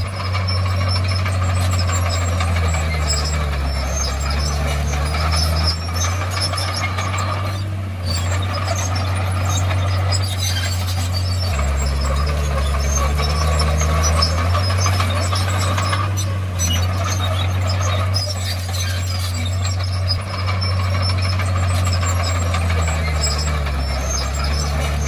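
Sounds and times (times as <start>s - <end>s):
bulldozer diesel engine running: 0.0s - 25.0s
steel tracks clinking and squeaking: 0.0s - 25.0s.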